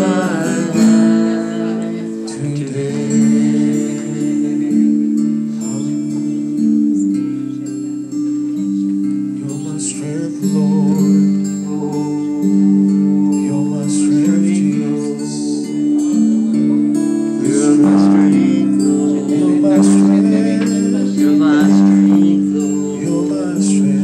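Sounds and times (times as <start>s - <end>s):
acoustic guitar strumming: 0.0s - 24.0s
man singing: 0.0s - 24.0s.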